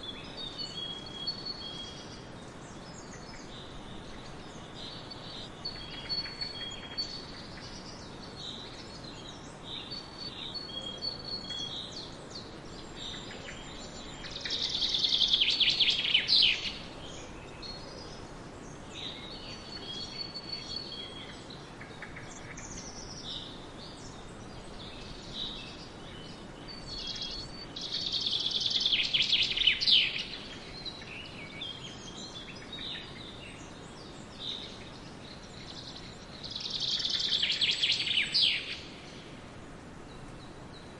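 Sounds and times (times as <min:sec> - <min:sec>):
bird song of rapid notes: 0:00.0 - 0:39.4
songbirds singing and chirping: 0:00.0 - 0:40.9.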